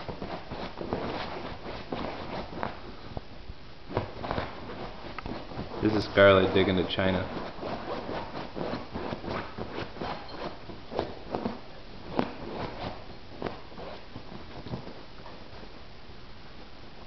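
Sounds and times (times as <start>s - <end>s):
dog claws scratching fabric: 0.0s - 3.1s, 3.9s - 15.7s.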